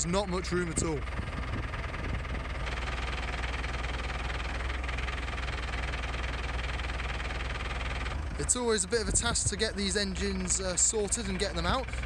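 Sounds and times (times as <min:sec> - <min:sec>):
machine engine running under load: 0:00.0 - 0:12.0.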